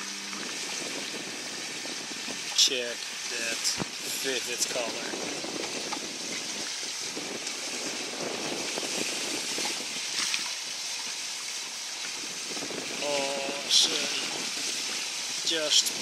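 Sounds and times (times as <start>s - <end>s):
water splashing along a hull: 0.0s - 16.0s.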